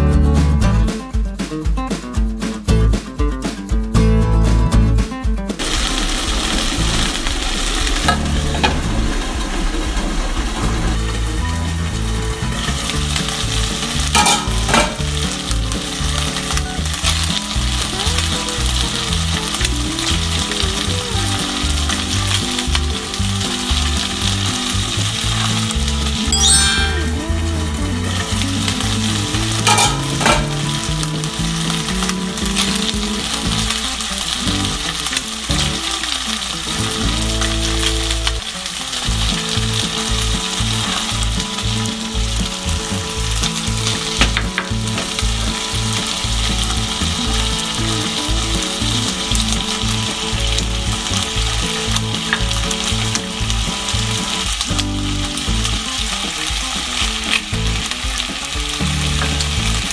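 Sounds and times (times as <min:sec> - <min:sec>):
bacon sizzling in a frying pan: 0:05.6 - 0:59.9.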